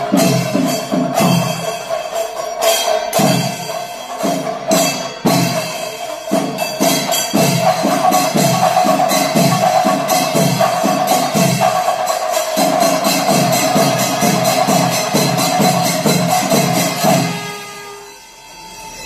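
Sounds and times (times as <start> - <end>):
drums fast even rhythm: 0.0 - 18.0
cymbal strokes: 0.0 - 19.0.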